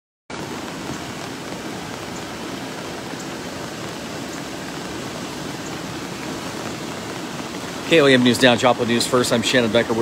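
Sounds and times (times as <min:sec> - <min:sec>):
floodwater rushing: 0:00.3 - 0:10.0.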